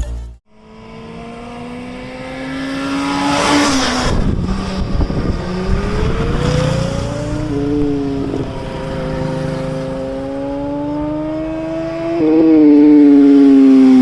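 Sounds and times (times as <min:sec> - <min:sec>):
motorcycle engine accelerating: 0:00.5 - 0:14.0.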